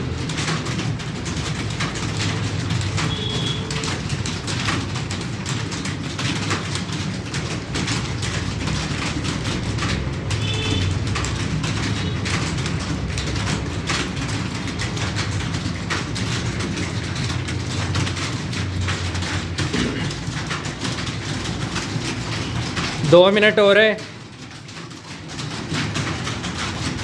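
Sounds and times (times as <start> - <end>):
keyboard typing: 0.0 - 27.0.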